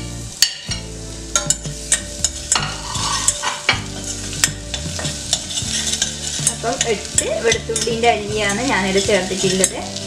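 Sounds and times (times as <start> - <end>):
garlic sizzling in butter: 0.0 - 10.0
spoon clinking against metal pan: 0.4 - 8.7.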